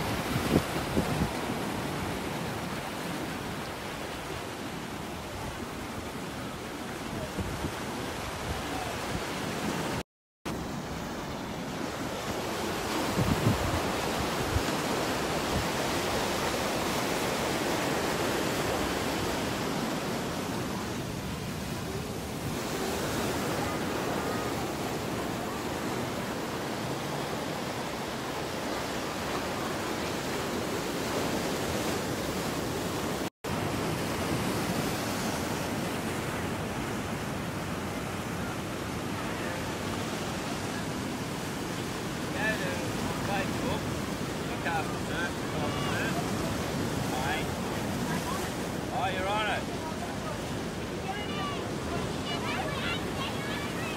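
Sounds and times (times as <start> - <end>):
ocean waves breaking on rocks: 0.0 - 53.9.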